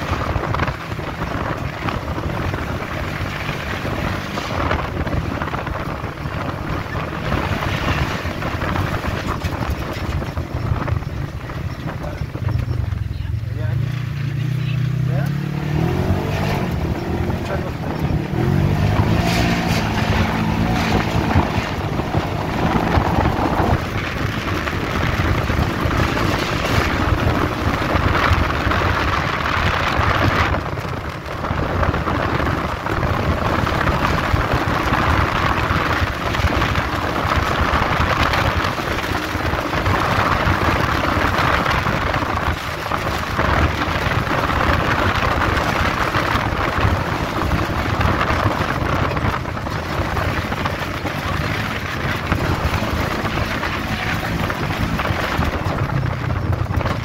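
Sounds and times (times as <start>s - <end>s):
vehicle engine running: 0.0s - 57.0s
wind noise on microphone: 0.0s - 57.0s.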